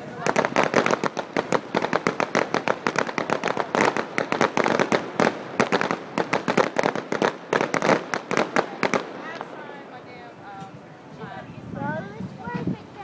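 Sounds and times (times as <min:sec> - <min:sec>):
fireworks cracking and popping: 0:00.0 - 0:11.4.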